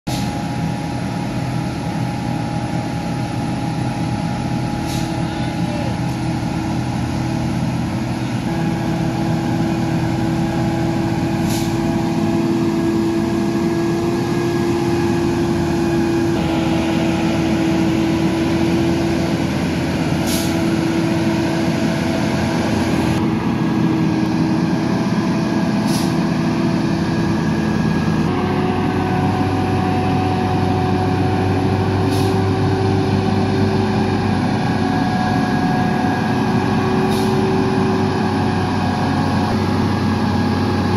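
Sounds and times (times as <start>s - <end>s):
diesel truck engine running: 0.1s - 40.9s.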